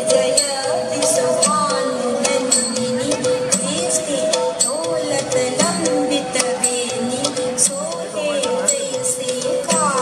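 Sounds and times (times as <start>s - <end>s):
bending melodic line: 0.0s - 10.0s.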